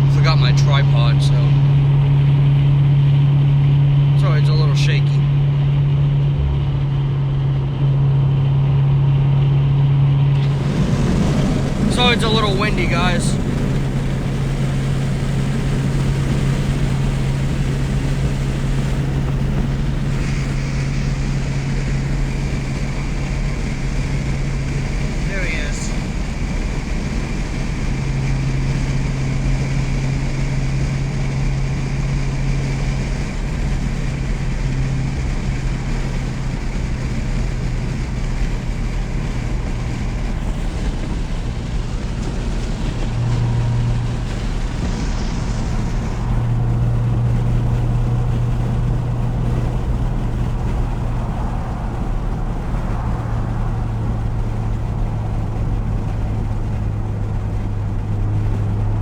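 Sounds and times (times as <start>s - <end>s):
car engine and exhaust droning: 0.0s - 59.0s
road and wind noise: 0.0s - 59.0s.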